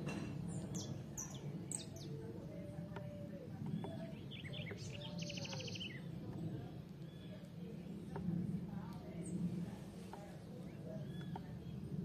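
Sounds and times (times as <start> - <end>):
low outdoor rumble: 0.0 - 12.0
songbirds chirping: 0.0 - 12.0.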